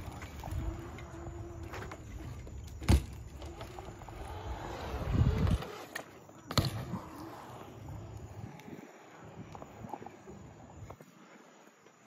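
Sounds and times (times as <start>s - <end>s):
bicycle rolling rumble: 0.0s - 12.0s.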